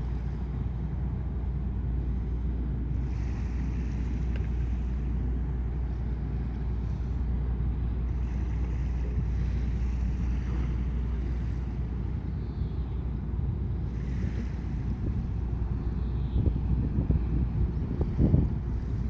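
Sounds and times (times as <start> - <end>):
ship engines rumbling: 0.0 - 19.0.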